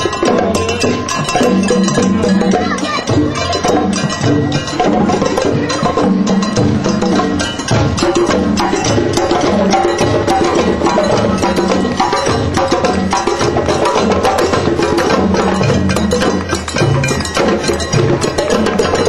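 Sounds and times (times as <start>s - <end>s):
music with busy percussion: 0.0s - 19.0s.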